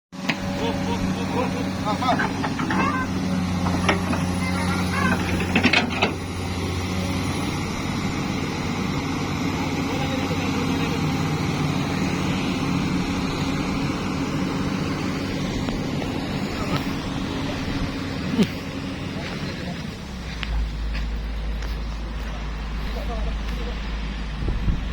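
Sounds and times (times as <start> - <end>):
engine running steadily: 0.1 - 24.9.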